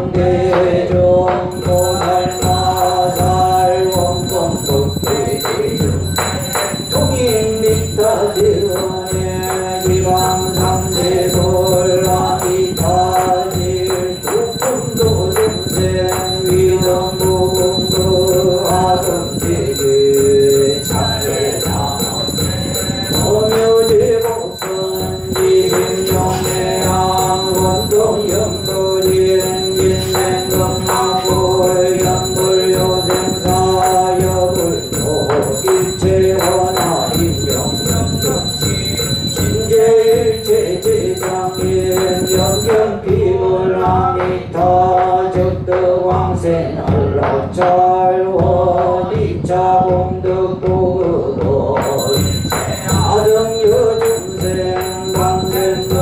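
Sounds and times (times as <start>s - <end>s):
chant in long held notes: 0.0s - 56.0s
bell jingling: 1.5s - 43.0s, 51.8s - 56.0s.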